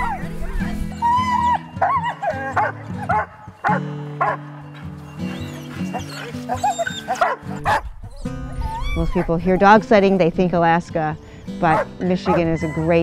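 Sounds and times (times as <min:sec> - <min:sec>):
sled dogs yelping and barking: 0:00.0 - 0:09.8, 0:11.2 - 0:13.0
background music with low chords: 0:00.0 - 0:13.0.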